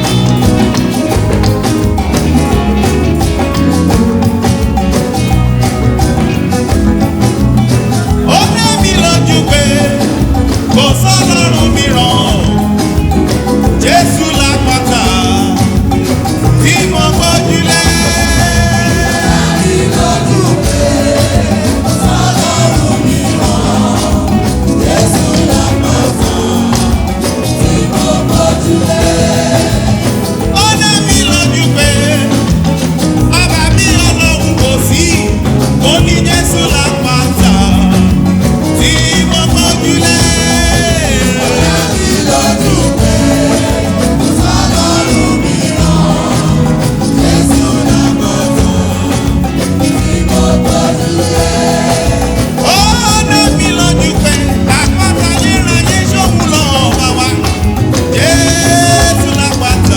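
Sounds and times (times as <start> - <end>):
singers with band accompaniment: 0.0 - 59.9.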